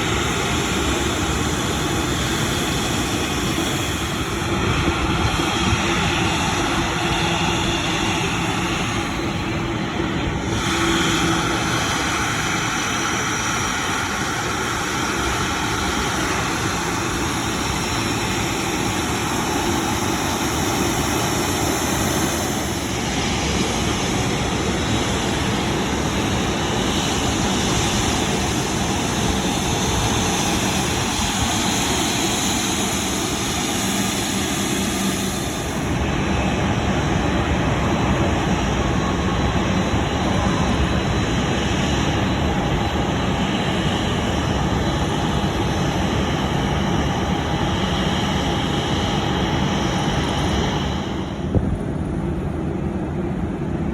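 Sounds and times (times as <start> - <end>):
jet engines roaring: 0.0 - 53.9.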